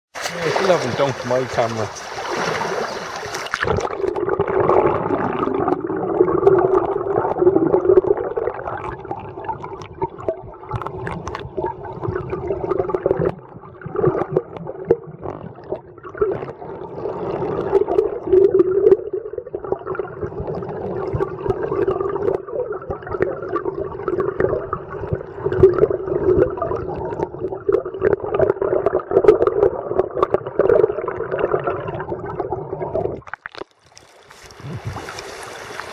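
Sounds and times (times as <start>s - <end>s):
muffled underwater river gurgling: 0.2s - 33.6s.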